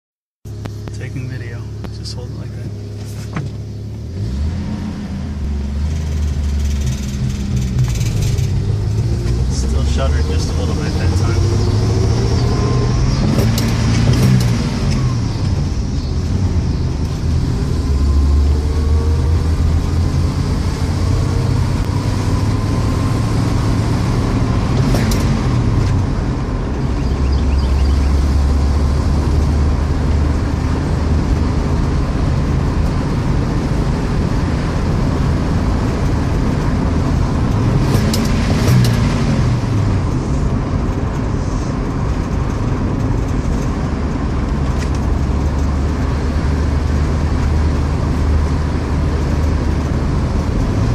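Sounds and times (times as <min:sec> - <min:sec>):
car engine accelerating: 0:00.5 - 0:50.9.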